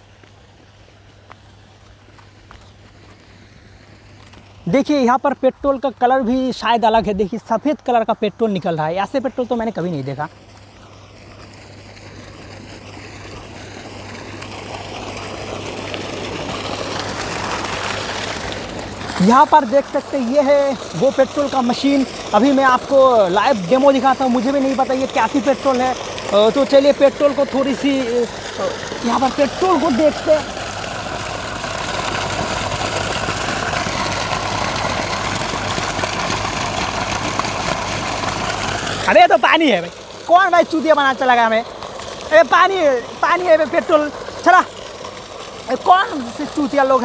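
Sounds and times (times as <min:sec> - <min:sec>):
pump humming: 0:00.0 - 0:47.0
water gushing from pipe: 0:00.0 - 0:47.0.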